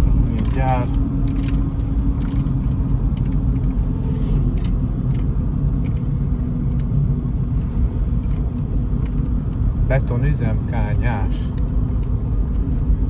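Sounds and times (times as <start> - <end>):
car cabin road rumble: 0.0 - 13.0.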